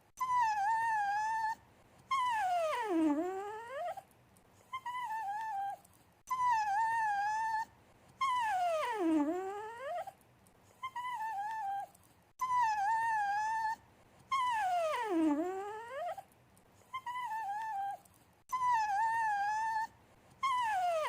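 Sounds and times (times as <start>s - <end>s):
dog whining: 0.0s - 21.0s.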